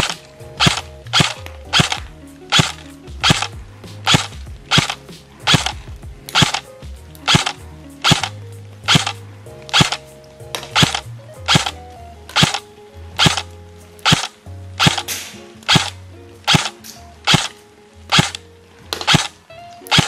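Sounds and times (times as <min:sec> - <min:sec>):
airsoft gun shots: 0:00.0 - 0:06.7, 0:07.3 - 0:12.6, 0:13.2 - 0:17.5, 0:18.1 - 0:18.4, 0:19.0 - 0:20.0
background music: 0:00.0 - 0:20.0.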